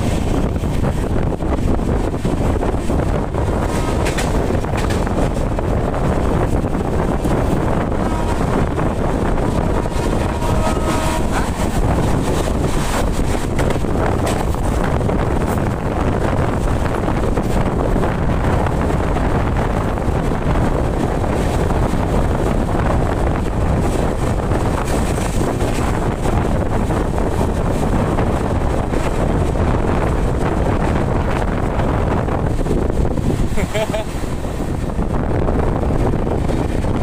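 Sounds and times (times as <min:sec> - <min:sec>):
moving passenger train: 0:00.0 - 0:37.0
wind buffeting microphone: 0:00.0 - 0:37.0.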